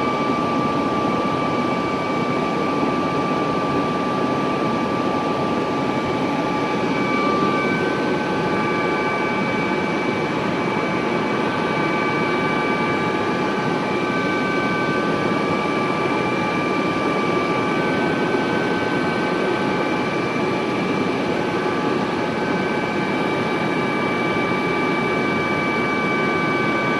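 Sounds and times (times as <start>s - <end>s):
helicopter engine and rotor noise: 0.0s - 26.9s.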